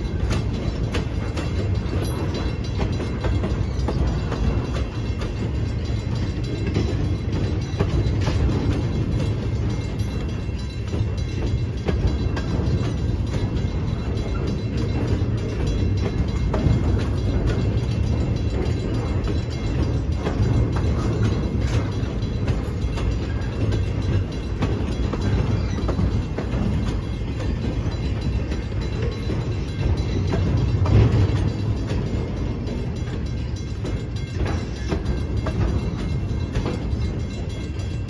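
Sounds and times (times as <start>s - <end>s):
steel wheels rumbling on rail: 0.0s - 38.0s
wheels clanking over rail joints: 0.0s - 38.0s.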